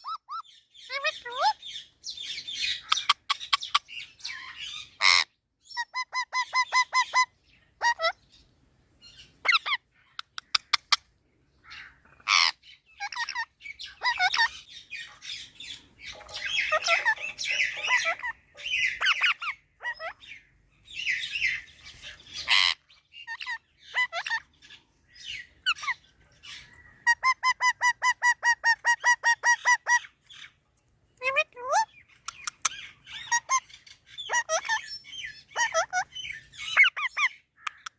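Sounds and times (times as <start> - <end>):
starlings chattering and squawking: 0.0 - 30.6, 31.2 - 37.9.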